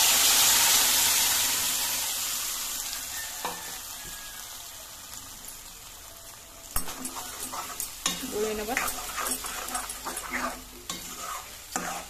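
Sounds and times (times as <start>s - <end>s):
puree sizzling in hot oil: 0.0s - 12.0s.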